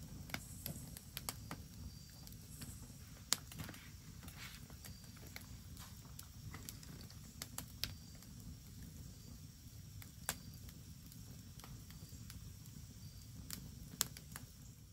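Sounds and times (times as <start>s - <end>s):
campfire crackling: 0.0s - 14.9s
fire popping: 0.0s - 14.9s.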